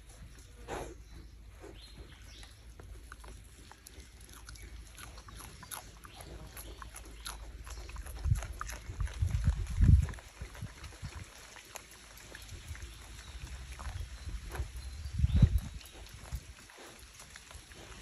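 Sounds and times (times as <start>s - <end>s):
steady low rumble: 0.0s - 11.4s, 12.2s - 18.0s
wild boar snuffling and chewing: 0.0s - 18.0s.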